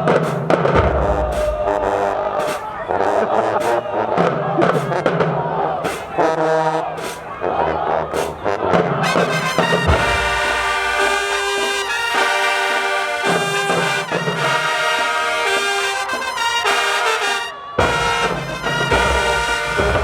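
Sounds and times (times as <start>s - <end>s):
brass section playing chords: 0.8s - 5.2s, 6.1s - 20.0s.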